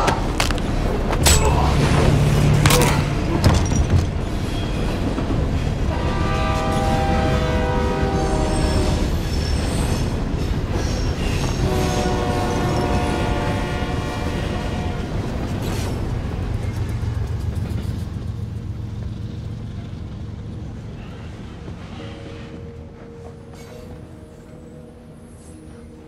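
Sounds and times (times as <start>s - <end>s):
train carriage rumbling: 0.0s - 26.0s.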